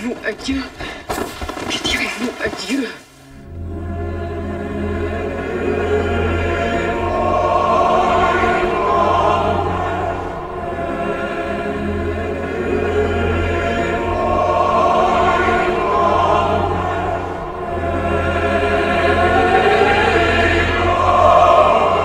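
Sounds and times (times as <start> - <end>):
low drone: 2.6 - 22.0
choir singing: 3.4 - 22.0.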